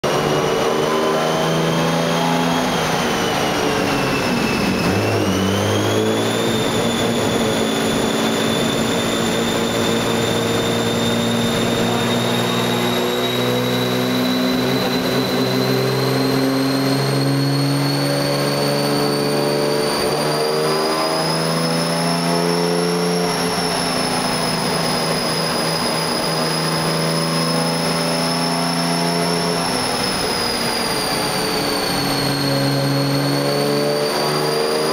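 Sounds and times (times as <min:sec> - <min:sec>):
high whine: 0:00.0 - 0:34.9
race car engine on dyno: 0:00.0 - 0:34.9.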